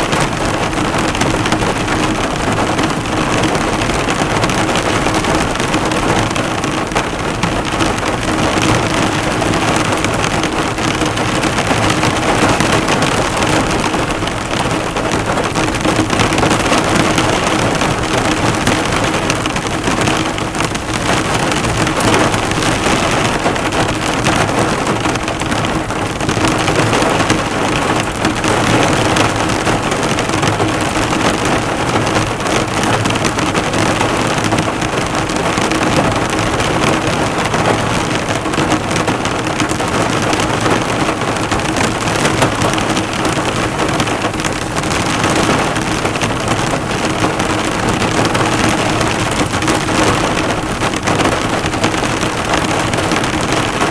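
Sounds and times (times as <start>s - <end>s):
heavy rain drumming on car: 0.0s - 53.9s.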